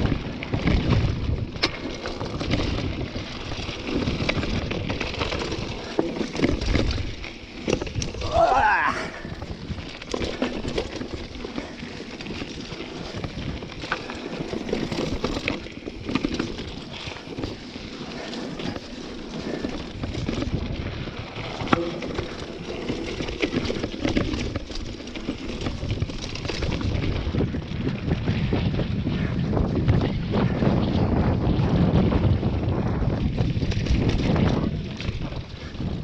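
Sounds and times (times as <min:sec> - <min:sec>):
bike rattling over rocks: 0:00.0 - 0:36.0
bike tyres crunching over stones: 0:00.0 - 0:36.0
wind rumbling on microphone: 0:00.0 - 0:36.0.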